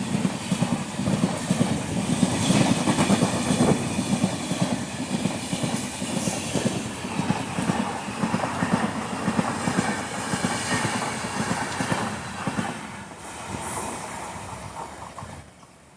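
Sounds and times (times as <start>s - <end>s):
train wheels clattering over rails: 0.0s - 15.8s.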